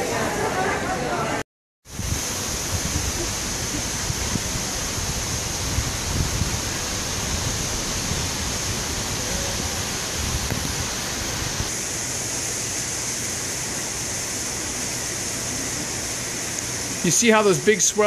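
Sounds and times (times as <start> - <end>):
ocean surf roaring: 0.0 - 18.0
high hiss: 1.9 - 18.0.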